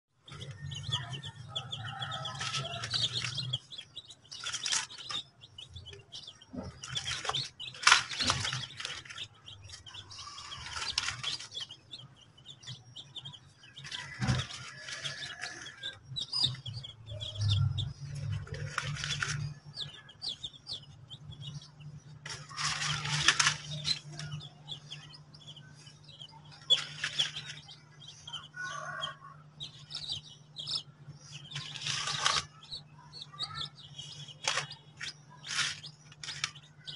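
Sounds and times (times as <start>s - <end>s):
chicks peeping: 0.2s - 36.9s.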